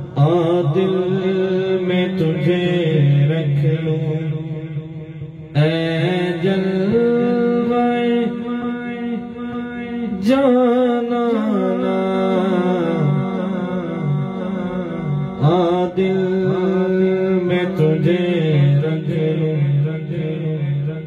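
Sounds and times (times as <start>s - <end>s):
person singing over speaker: 0.0s - 21.0s.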